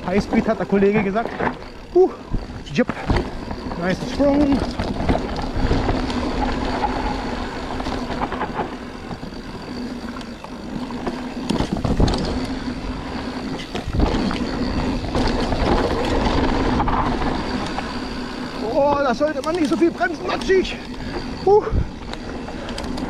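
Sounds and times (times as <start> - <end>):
bike rattling over ground: 0.0 - 23.0
bike tyres rolling on dirt: 0.0 - 23.0.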